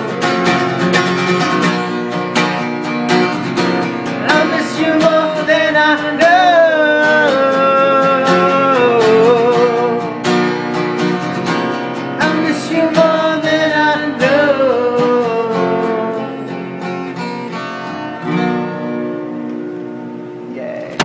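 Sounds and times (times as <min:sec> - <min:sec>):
strummed acoustic guitar: 0:00.0 - 0:21.0.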